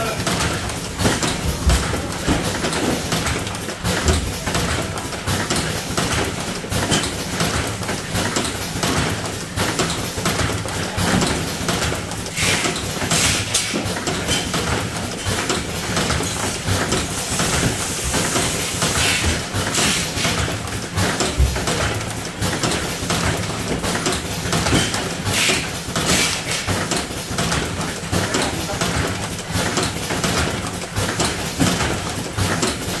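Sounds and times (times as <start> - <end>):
cartoning machine clattering: 0.0 - 33.0.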